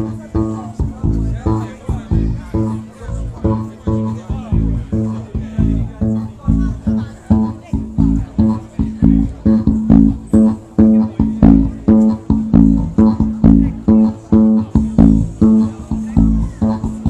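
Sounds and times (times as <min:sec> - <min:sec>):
live band music: 0:00.0 - 0:17.0
plucked guitar and bass pattern: 0:00.0 - 0:17.0.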